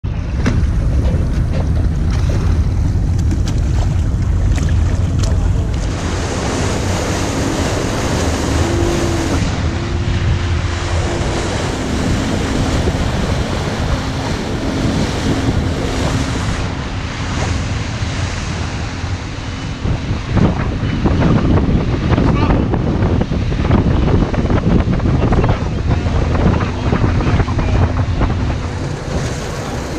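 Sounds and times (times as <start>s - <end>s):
boat engine rumble: 0.0s - 29.9s
water rushing along hull: 0.0s - 29.9s
wind buffeting microphone: 0.0s - 29.9s.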